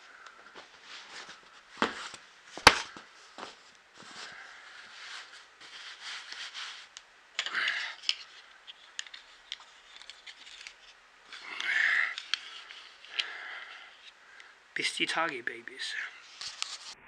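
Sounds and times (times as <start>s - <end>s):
rustling and clicks: 0.1s - 14.5s.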